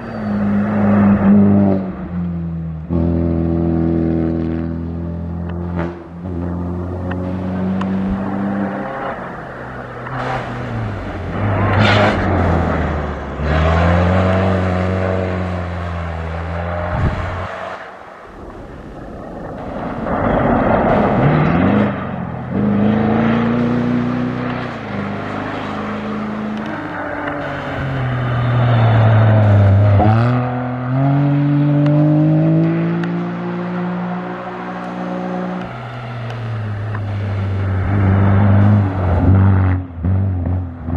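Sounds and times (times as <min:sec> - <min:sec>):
rally vehicle engine at full throttle: 0:00.0 - 0:40.9.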